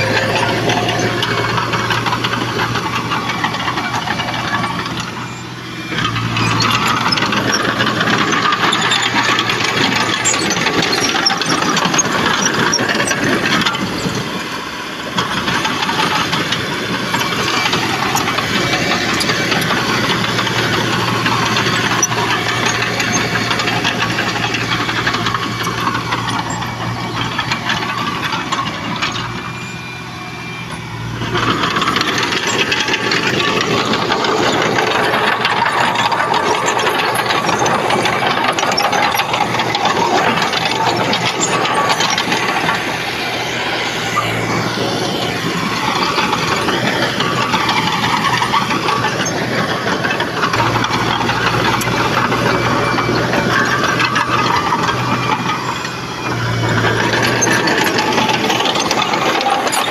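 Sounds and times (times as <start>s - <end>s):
bulldozer diesel engine running: 0.0s - 59.9s
metallic rattling of tracks: 0.0s - 59.9s.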